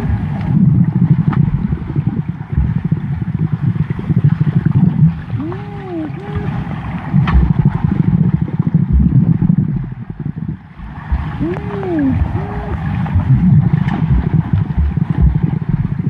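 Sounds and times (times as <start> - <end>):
underwater churning water and bubbles: 0.0 - 16.0.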